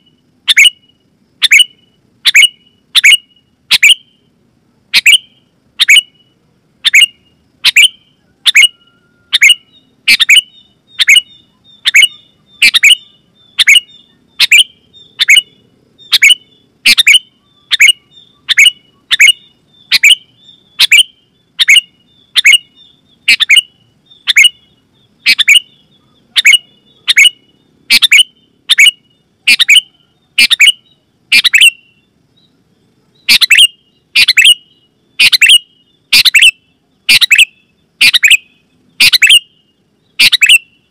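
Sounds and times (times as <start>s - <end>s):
bird calling loudly: 0.0s - 4.3s, 4.9s - 32.1s, 33.2s - 40.9s
soft bird chatter: 0.0s - 40.9s.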